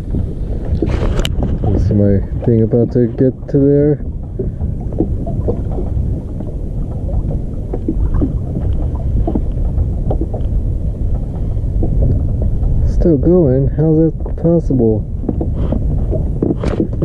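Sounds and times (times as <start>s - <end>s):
small waves slapping a hull: 0.0s - 17.0s
wind rumbling on microphone: 0.0s - 17.0s.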